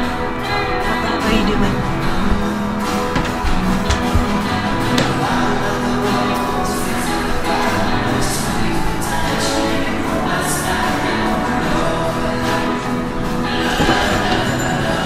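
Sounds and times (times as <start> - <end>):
song with guitar and singing: 0.0 - 15.0.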